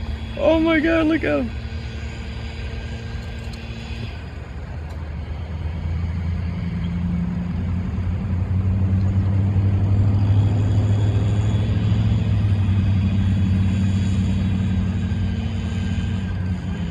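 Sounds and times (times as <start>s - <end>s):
car engine humming: 0.0s - 16.9s.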